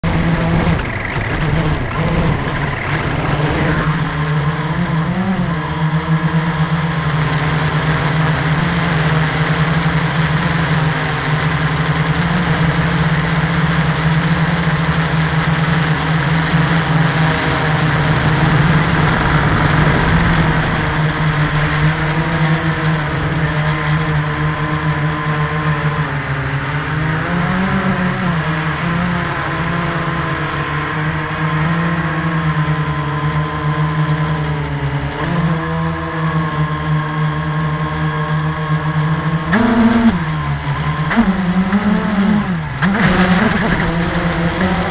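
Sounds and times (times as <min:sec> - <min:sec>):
drone motors buzzing: 0:00.0 - 0:44.9.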